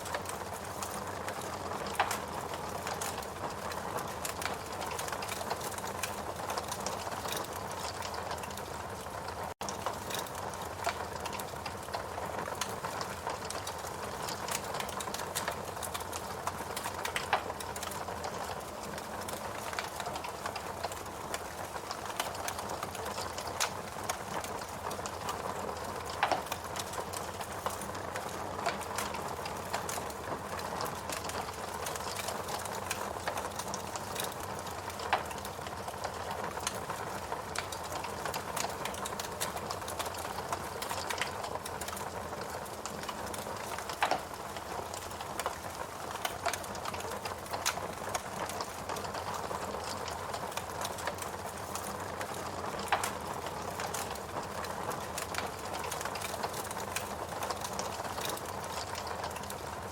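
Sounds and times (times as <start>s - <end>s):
wood logs crackling in fireplace: 0.0s - 59.9s.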